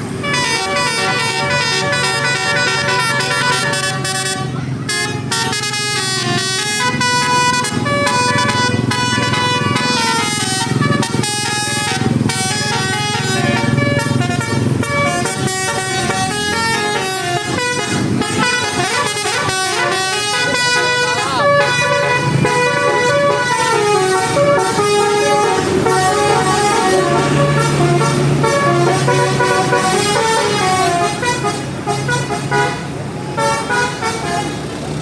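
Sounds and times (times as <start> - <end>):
bus engine running: 0.0 - 35.0
bus horn playing a tune: 0.0 - 35.0.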